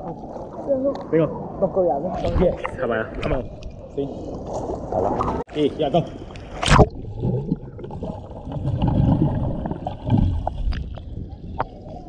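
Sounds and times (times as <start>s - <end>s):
underwater rumble and gurgles: 0.0s - 12.0s
water splashing: 2.0s - 12.0s.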